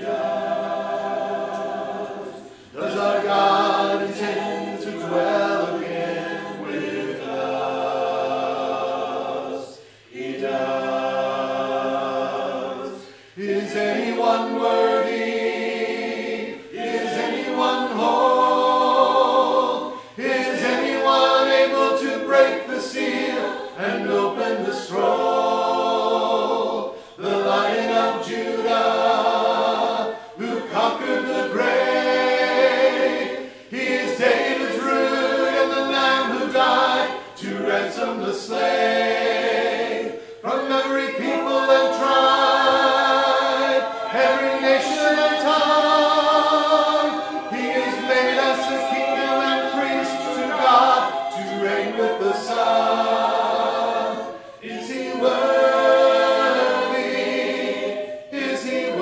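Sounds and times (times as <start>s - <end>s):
voices singing a worship song: 0.0s - 59.0s.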